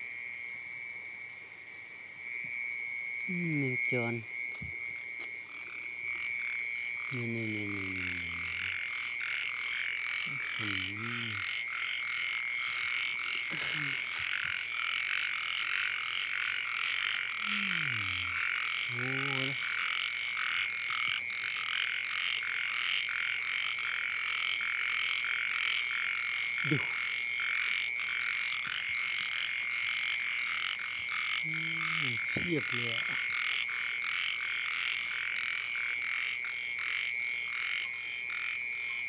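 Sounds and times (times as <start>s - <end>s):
frogs calling: 0.0s - 39.0s.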